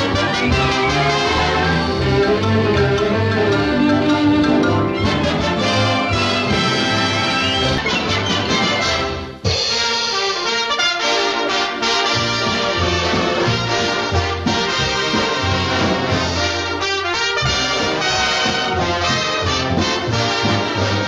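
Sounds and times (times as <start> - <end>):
orchestral cartoon music with brass: 0.0 - 21.0.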